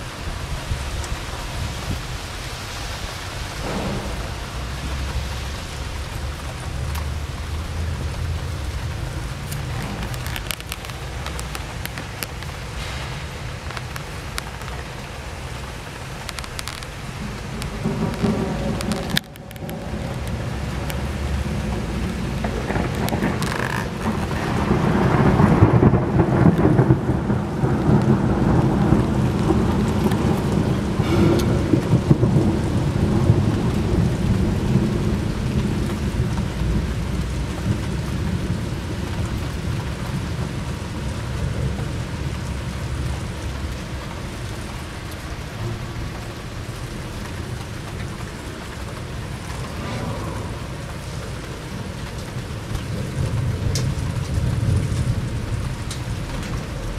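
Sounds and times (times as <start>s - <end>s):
heavy rain falling: 0.0s - 56.9s
rolling thunder: 0.2s - 56.9s.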